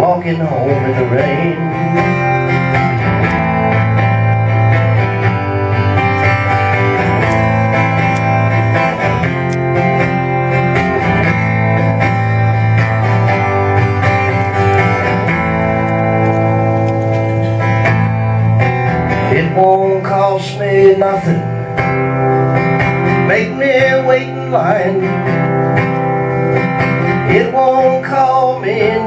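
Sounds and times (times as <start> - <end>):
acoustic guitars strumming: 0.0 - 29.0.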